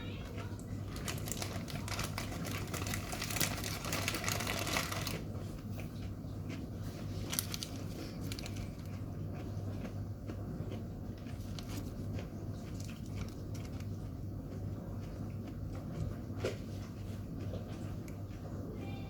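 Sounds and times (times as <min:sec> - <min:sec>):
crunchy chewing: 0:00.3 - 0:18.6.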